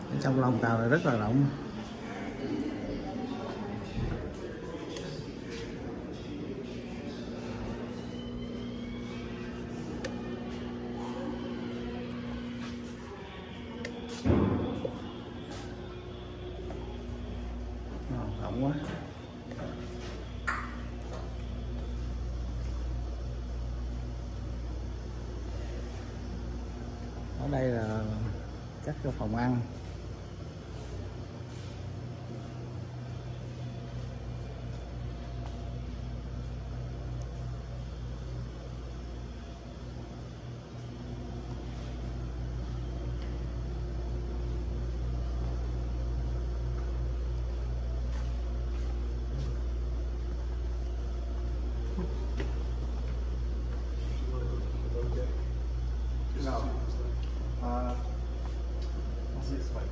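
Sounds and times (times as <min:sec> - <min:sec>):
ventilation system humming: 0:00.0 - 0:59.9.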